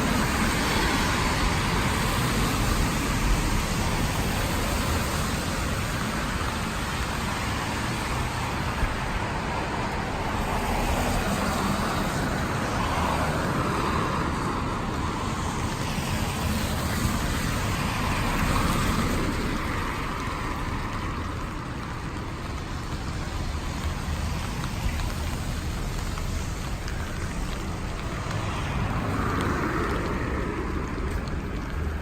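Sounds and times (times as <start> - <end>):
cars passing on wet road: 0.0 - 32.0
steady rain on street: 0.0 - 32.0.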